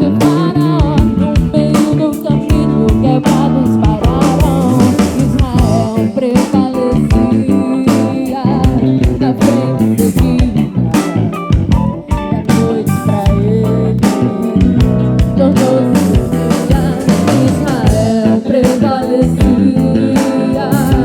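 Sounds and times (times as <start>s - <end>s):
guitar melody with bending notes: 0.0s - 21.0s
live band playing: 0.0s - 21.0s.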